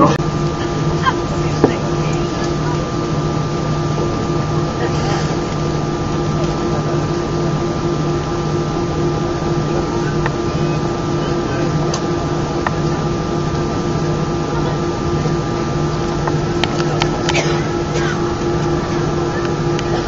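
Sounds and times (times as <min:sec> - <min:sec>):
aircraft cabin engine hum: 0:00.0 - 0:20.0
low pulsing drone: 0:00.0 - 0:20.0.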